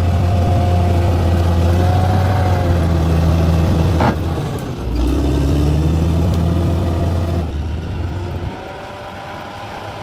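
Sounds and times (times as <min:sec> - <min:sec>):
heavy machine engine droning: 0:00.0 - 0:10.0.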